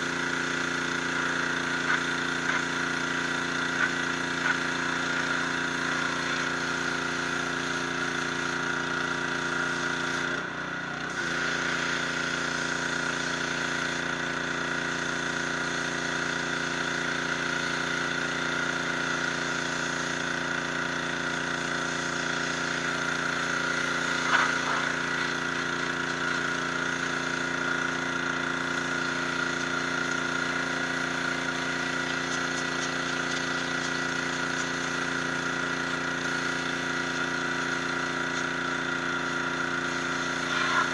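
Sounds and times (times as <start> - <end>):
water jet hissing on stone: 0.0 - 10.4, 11.1 - 40.9
pressure washer running: 0.0 - 40.9.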